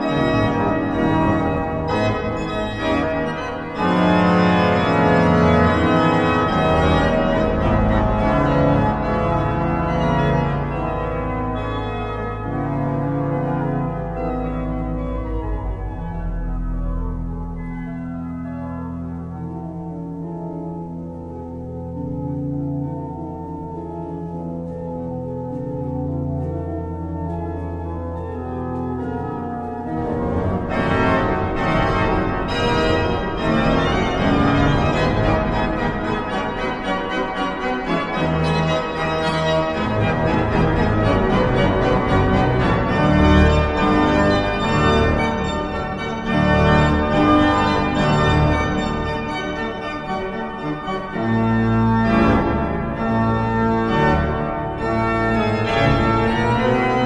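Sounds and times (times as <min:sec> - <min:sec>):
pipe organ playing: 0:00.0 - 0:57.0.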